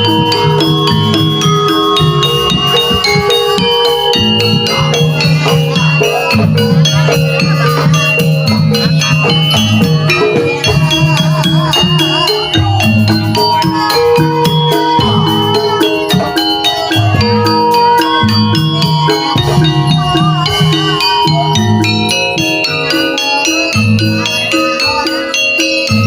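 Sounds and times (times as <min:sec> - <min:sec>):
drumming and rattling percussion: 0:00.0 - 0:26.0
struck metallophones: 0:00.0 - 0:26.0
wavering melodic line: 0:00.0 - 0:26.0.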